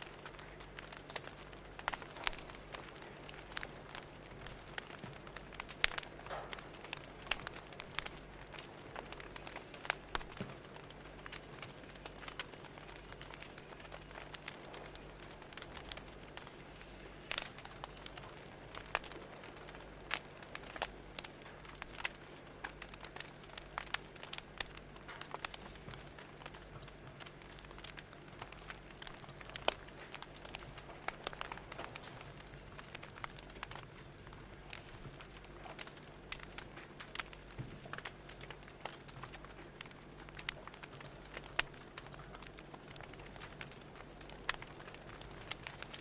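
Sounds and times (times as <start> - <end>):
fire crackling and popping: 0.0 - 46.0
soft steady hiss: 0.0 - 46.0.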